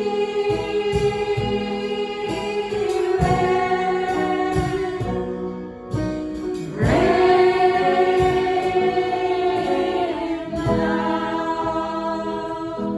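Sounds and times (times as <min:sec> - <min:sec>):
choir singing gospel song: 0:00.0 - 0:05.6, 0:06.5 - 0:12.9
instrumental backing: 0:00.0 - 0:12.9.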